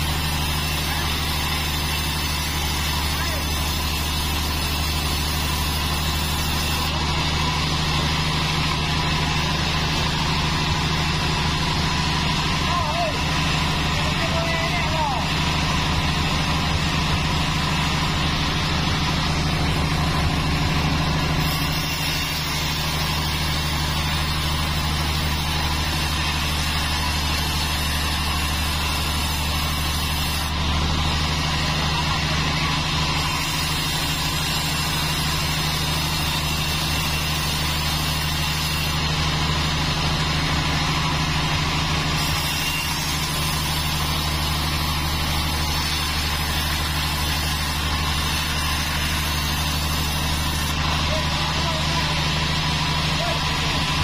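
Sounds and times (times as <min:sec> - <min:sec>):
band saw humming: 0:00.0 - 0:54.0.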